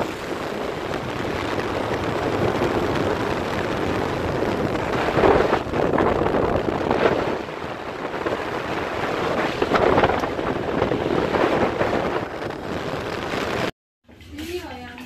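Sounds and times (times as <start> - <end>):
wind buffeting microphone: 0.0 - 13.7
engine and road noise: 0.0 - 14.2.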